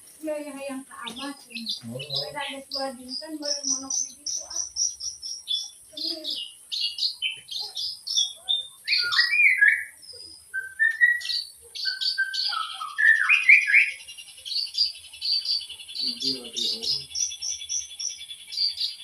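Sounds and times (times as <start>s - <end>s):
shrike singing: 0.2s - 19.0s.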